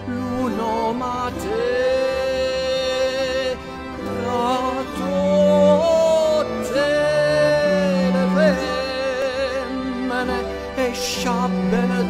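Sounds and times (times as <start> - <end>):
person singing long wavering notes: 0.0 - 12.0
sustained low instrumental notes: 0.0 - 12.0.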